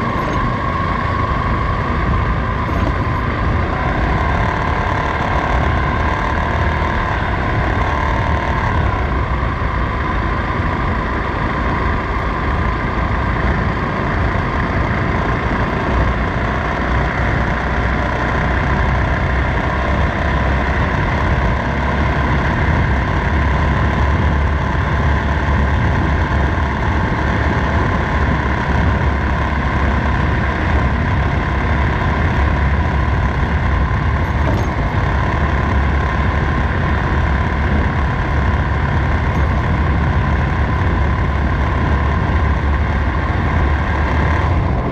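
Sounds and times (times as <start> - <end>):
motorcycle engine running: 0.0 - 44.9
road and wind rumble: 0.0 - 44.9.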